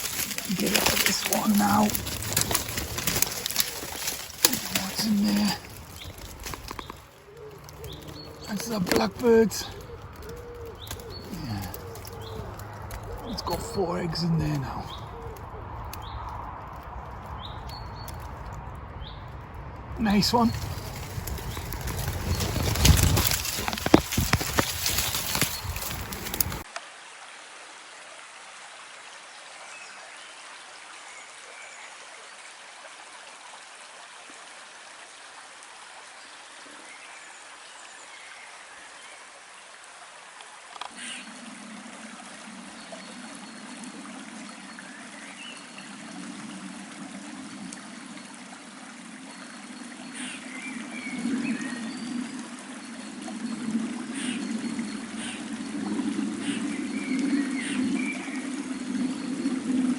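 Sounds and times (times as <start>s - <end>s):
stream water rushing: 0.0s - 18.8s, 19.8s - 59.9s.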